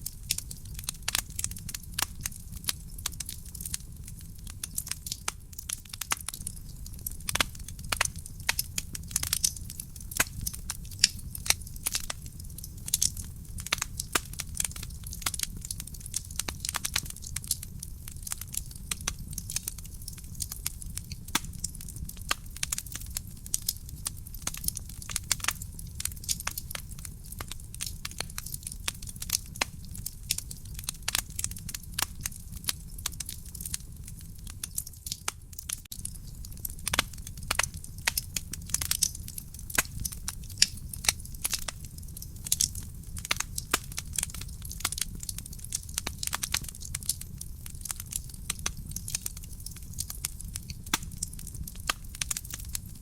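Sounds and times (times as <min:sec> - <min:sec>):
low rumble of burning: 0:00.0 - 0:53.0
wood fire crackling: 0:00.0 - 0:53.0.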